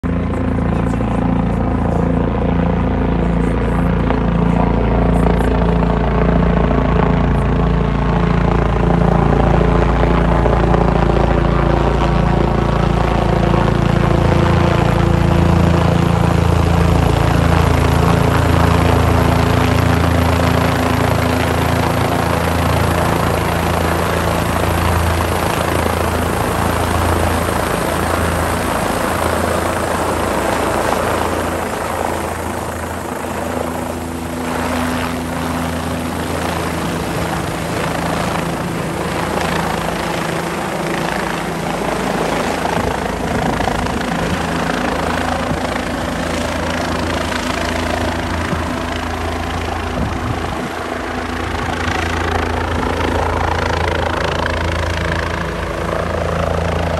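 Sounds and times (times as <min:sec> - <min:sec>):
helicopter rotor and engine: 0:00.0 - 0:56.9.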